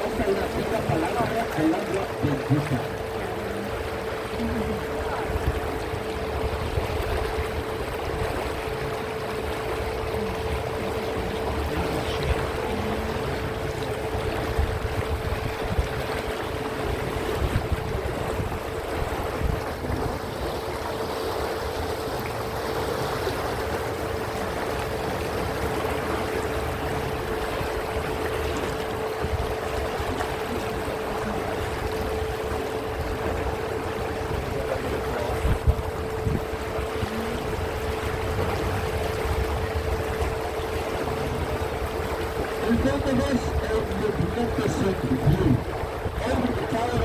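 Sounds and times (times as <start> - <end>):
boat motor humming: 0.0 - 47.0
water washing: 0.0 - 47.0.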